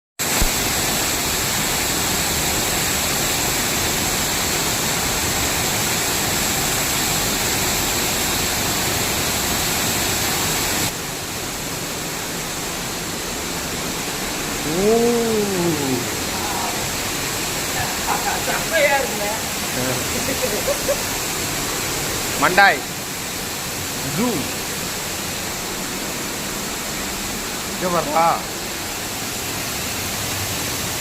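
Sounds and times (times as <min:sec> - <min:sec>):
waterfall rushing: 0:00.2 - 0:31.0.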